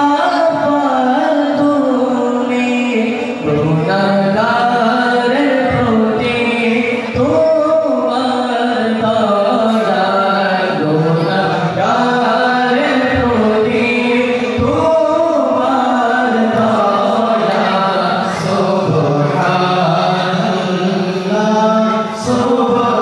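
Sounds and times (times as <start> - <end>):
man chanting into a microphone: 0.0 - 23.0.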